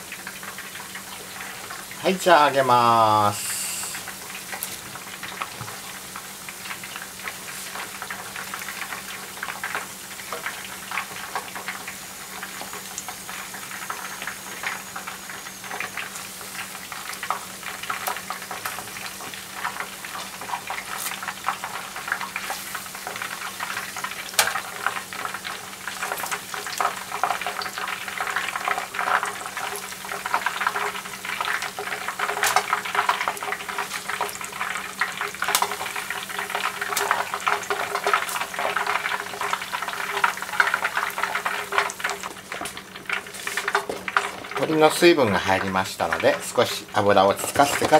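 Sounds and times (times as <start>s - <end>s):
chicken deep-frying in oil: 0.0s - 47.9s.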